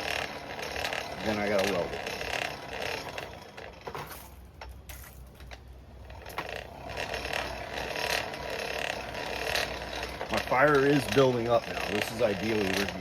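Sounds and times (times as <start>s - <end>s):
forge blower whirring and rattling: 0.0s - 13.0s.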